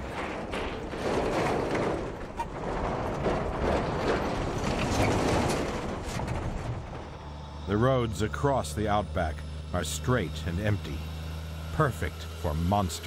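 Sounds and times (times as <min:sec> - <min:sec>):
trailers rattling and clanking: 0:00.0 - 0:13.0
truck rumbling past: 0:00.0 - 0:13.0.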